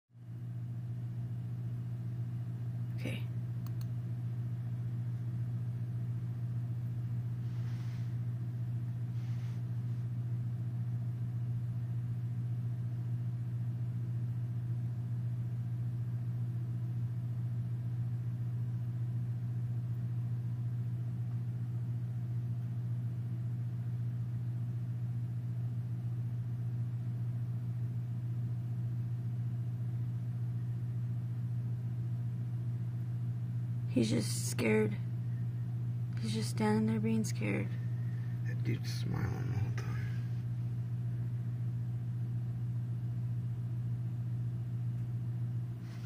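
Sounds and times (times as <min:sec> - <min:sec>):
steady low hum: 0:00.2 - 0:46.0.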